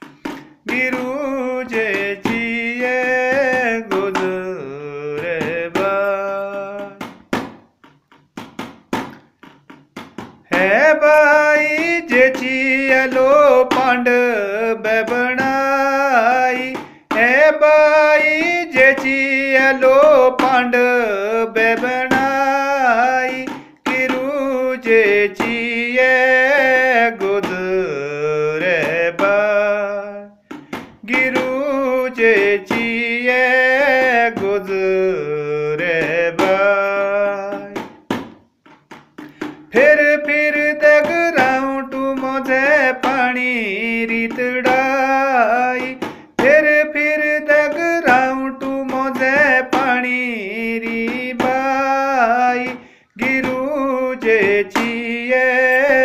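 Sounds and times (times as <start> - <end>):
man singing: 0.0 - 7.3, 10.4 - 38.0, 39.2 - 56.0.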